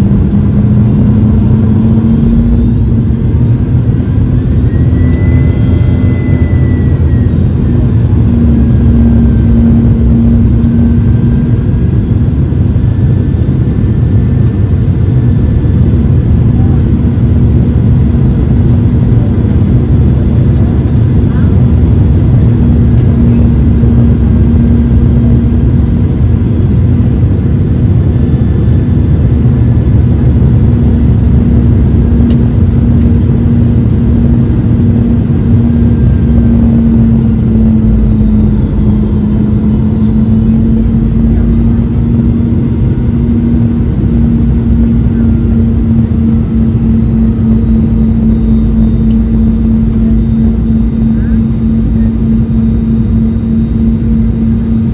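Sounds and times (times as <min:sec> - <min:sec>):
faint high whine: 0:00.0 - 0:54.9
jet engine hum in cabin: 0:00.0 - 0:54.9.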